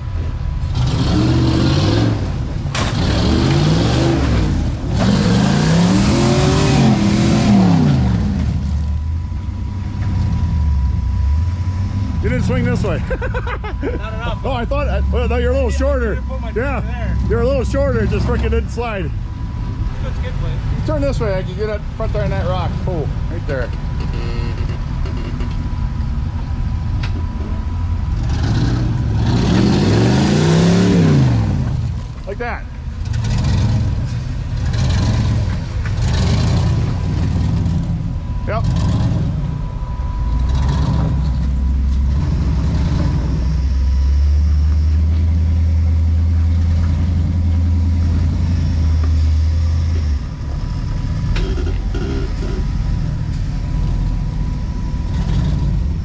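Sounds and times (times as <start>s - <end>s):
off-road vehicle engine running low: 0.0s - 56.0s.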